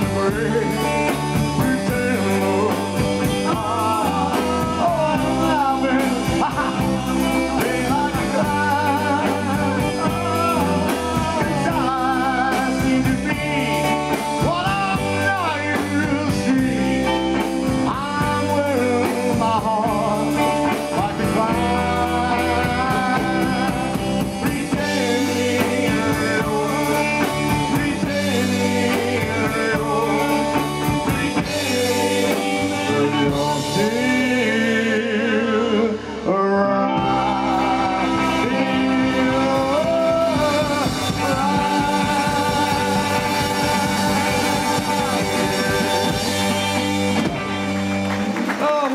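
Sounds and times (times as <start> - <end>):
drum kit: 0.0 - 35.3, 36.9 - 48.9
bass guitar: 0.0 - 48.9
electric guitars: 0.0 - 48.9.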